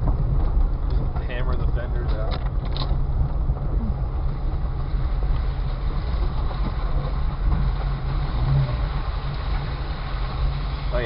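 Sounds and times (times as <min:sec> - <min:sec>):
engine and drivetrain rumble: 0:00.0 - 0:11.0.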